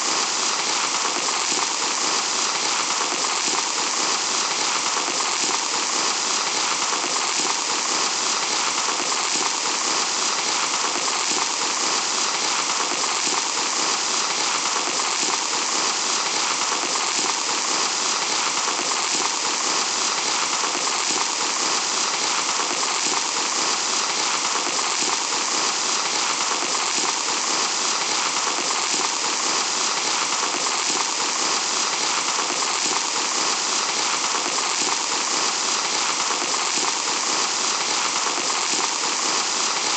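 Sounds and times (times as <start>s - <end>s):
sand pouring: 0.0s - 39.9s.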